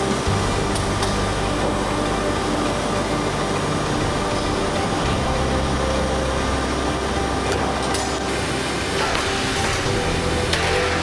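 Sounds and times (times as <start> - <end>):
background music with low notes: 0.0 - 11.0
steady shop hum: 0.0 - 11.0.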